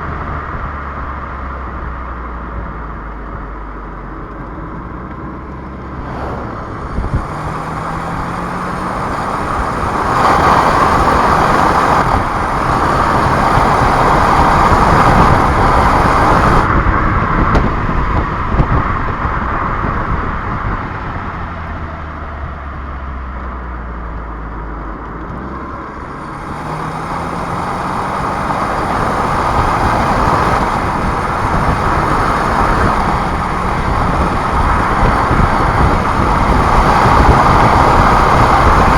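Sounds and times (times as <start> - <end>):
car engine accelerating: 0.0 - 38.9
tyre and road noise: 0.0 - 38.9.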